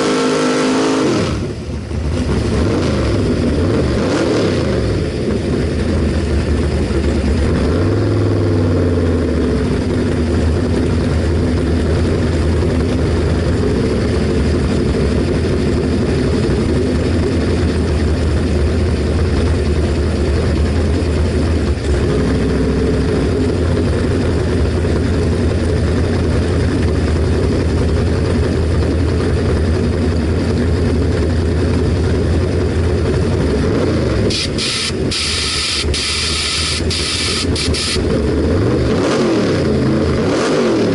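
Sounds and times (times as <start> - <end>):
drag car engine idling: 1.4 - 4.0, 4.8 - 38.9.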